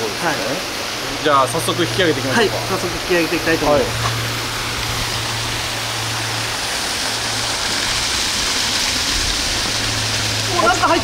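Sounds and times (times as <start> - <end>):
river water rushing: 0.0 - 11.0
low steady hum: 0.8 - 11.0.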